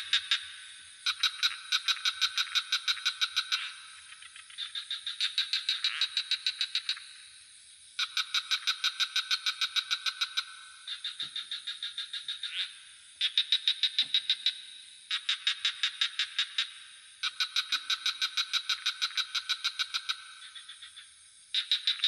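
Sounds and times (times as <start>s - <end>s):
frogs calling in pulses: 0.0s - 22.0s
high insect trill: 0.0s - 22.0s.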